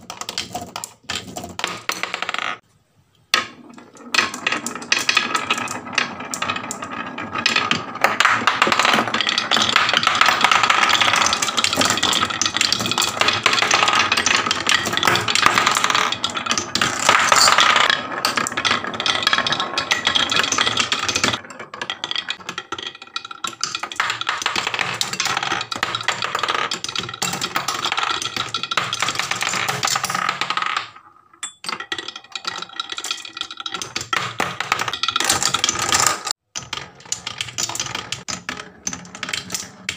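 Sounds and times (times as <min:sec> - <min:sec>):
marbles rattling down wooden tracks: 0:00.0 - 0:02.6, 0:03.4 - 0:39.9.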